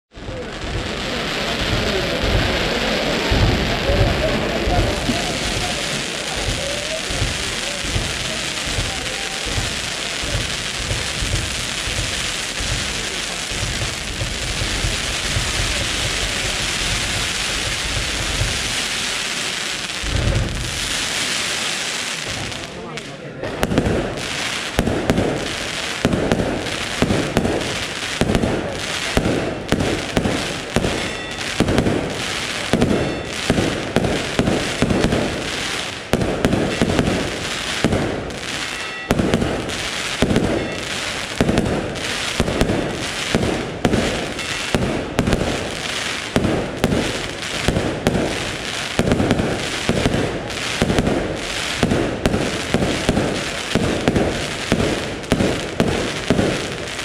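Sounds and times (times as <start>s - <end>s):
fireworks bursting: 0.1s - 57.0s.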